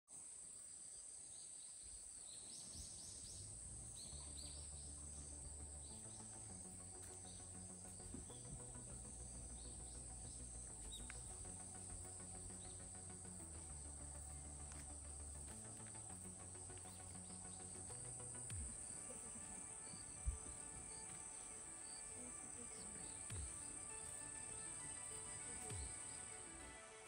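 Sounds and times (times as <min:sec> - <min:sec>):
insects buzzing: 0:00.2 - 0:27.0
bird chirps: 0:01.4 - 0:26.9
soft background music: 0:02.5 - 0:27.0.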